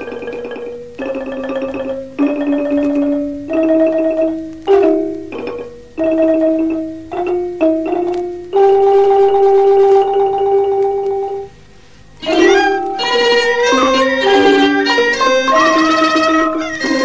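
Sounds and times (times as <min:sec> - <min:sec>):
xylophone tremolo notes: 0:00.0 - 0:11.5, 0:12.2 - 0:17.0.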